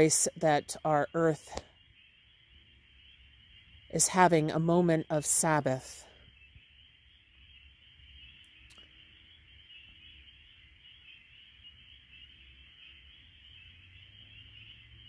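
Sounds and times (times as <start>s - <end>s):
frogs peeping chorus: 0.0s - 15.0s.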